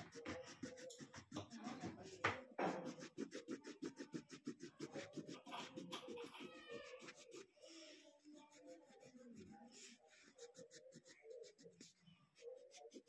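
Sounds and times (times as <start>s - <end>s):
crayon scratching on paper: 0.0s - 13.0s.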